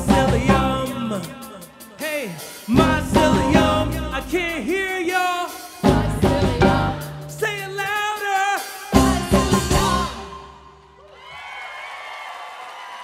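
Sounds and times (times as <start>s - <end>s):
drum kit accents: 0.0s - 10.9s.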